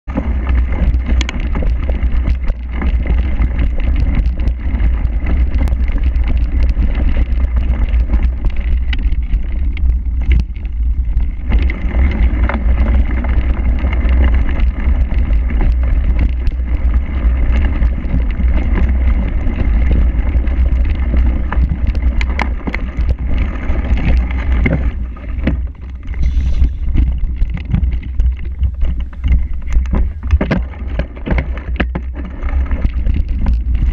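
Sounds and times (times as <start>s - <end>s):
wind rumble on microphone: 0.0s - 33.9s
bike rattling and knocking: 0.1s - 33.9s
tyres on dirt: 0.1s - 33.9s.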